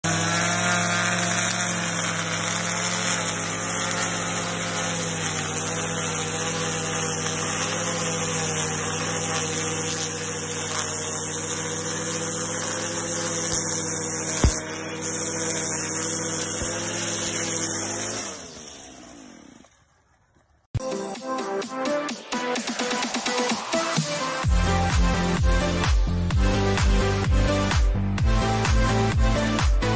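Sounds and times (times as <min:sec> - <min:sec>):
lawn edger engine droning: 0:00.0 - 0:20.7, 0:22.7 - 0:29.9.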